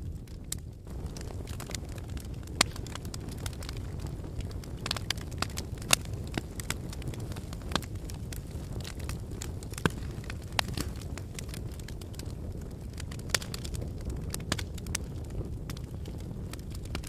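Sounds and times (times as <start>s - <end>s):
burning wood crackling and popping: 0.0s - 17.0s
fire flames rumbling: 0.0s - 17.0s.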